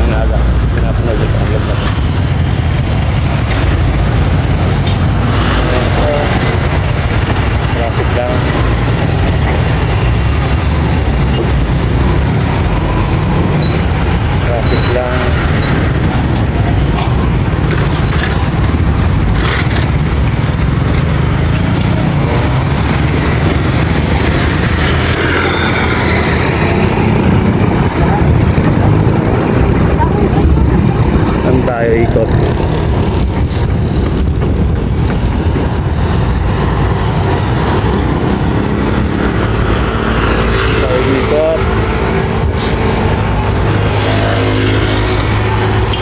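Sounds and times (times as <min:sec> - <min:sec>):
vehicle driving rumble: 0:00.0 - 0:46.0.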